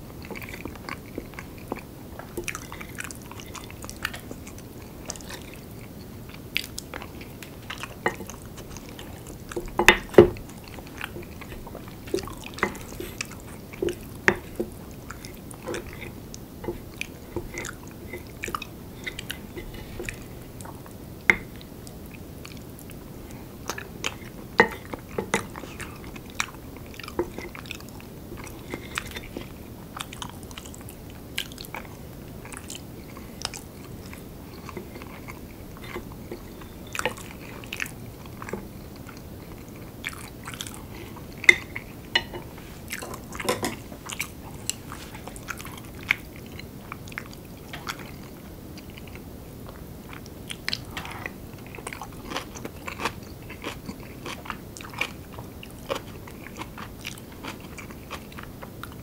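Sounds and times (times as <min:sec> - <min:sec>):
chewing and biting: 0:00.2 - 0:59.0.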